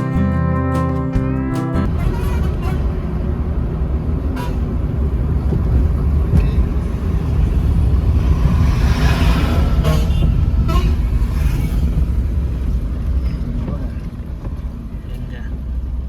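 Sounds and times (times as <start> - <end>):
car driving on road: 1.8 - 16.0
rush of noise: 1.9 - 15.0.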